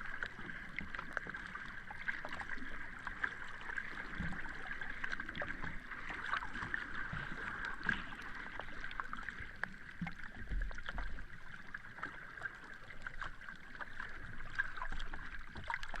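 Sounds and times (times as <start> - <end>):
sea water lapping: 0.0 - 16.0.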